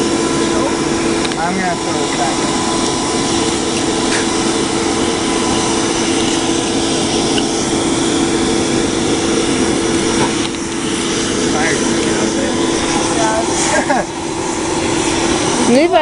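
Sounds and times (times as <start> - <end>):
air blower rushing and humming: 0.0 - 16.0.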